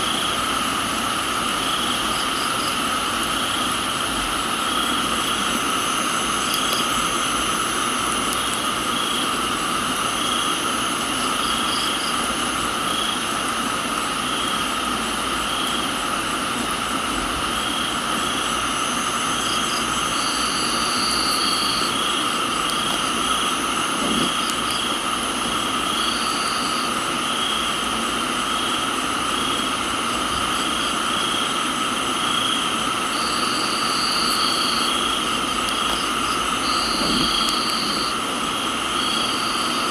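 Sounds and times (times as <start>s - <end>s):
crickets and insects chirring: 0.0s - 39.9s
steady rain hiss: 0.0s - 39.9s.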